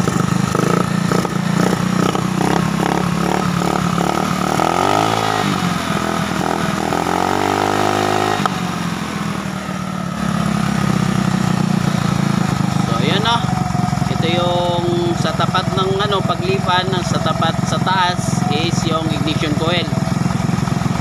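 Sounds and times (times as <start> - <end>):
scooter engine idling unevenly: 0.0 - 21.0.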